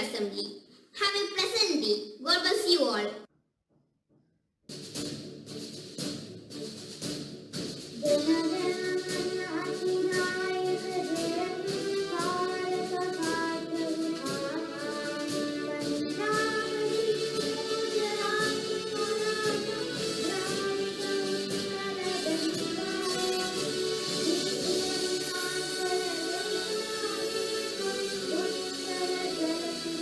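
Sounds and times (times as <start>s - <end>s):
music with clear melody: 4.7s - 30.0s.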